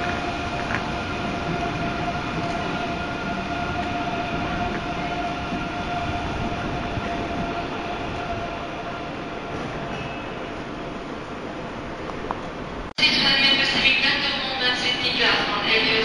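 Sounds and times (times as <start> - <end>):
train wheels rushing on rail: 0.0 - 12.9.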